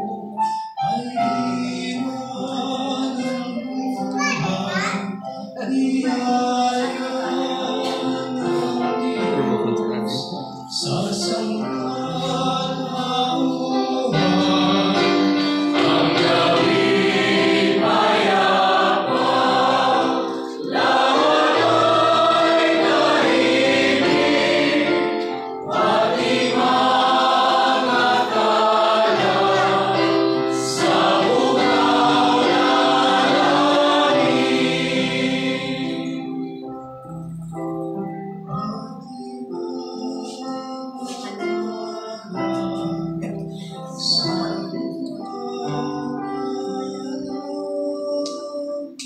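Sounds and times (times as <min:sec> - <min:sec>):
group singing a carol: 0:00.0 - 0:04.1, 0:05.4 - 0:36.9, 0:38.5 - 0:49.0
instrumental accompaniment: 0:00.0 - 0:49.0.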